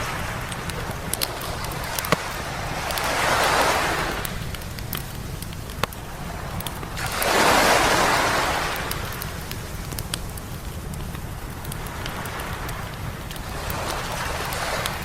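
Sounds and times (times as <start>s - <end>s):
small waves breaking on beach: 0.0s - 10.0s, 11.5s - 15.0s
campfire crackling and popping: 0.0s - 15.0s.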